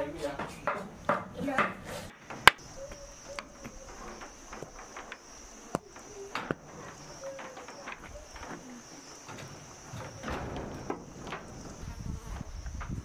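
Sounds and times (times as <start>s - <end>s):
high-pitched insect chorus: 0.0s - 13.0s
sharp clicks and knocks: 0.4s - 13.0s.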